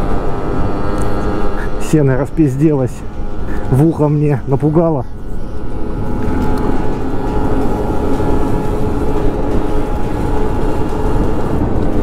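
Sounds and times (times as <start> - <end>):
scooter engine cruising: 0.0 - 12.0
wind and road noise: 0.0 - 12.0.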